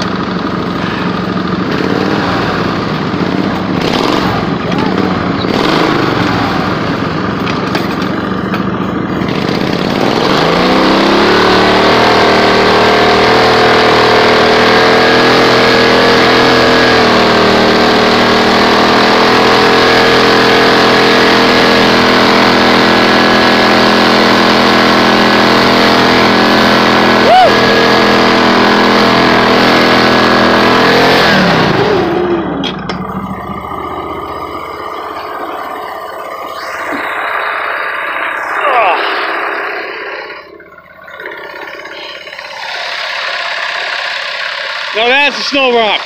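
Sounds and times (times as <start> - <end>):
lawn mower engine revving: 0.0 - 46.0.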